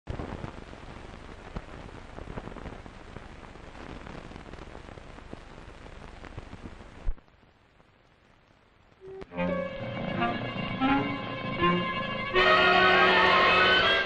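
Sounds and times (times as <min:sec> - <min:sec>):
film soundtrack crackle and pops: 0:00.0 - 0:14.0
faint hiss: 0:00.1 - 0:14.0.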